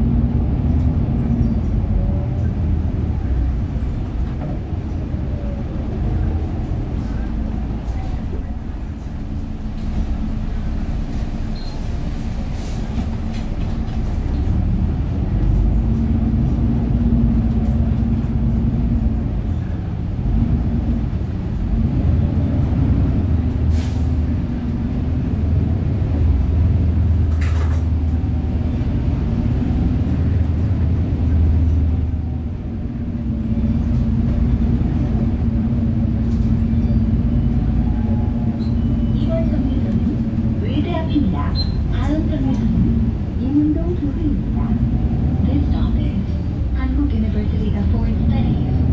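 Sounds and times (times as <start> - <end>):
bus engine hum: 0.0 - 48.9
road noise: 0.0 - 48.9.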